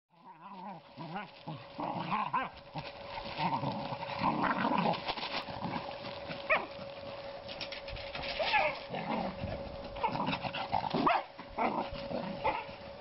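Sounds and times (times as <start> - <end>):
puppies growling: 0.1 - 13.0.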